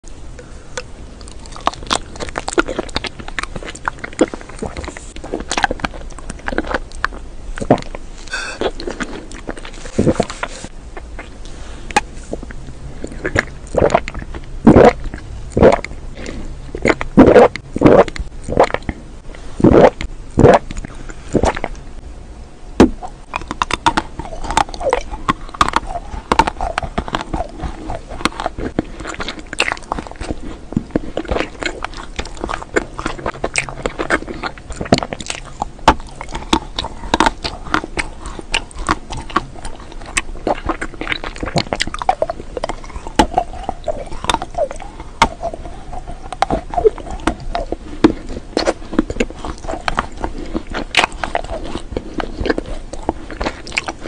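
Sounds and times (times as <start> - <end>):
bites and chewing: 0.0 - 22.0, 22.8 - 54.0.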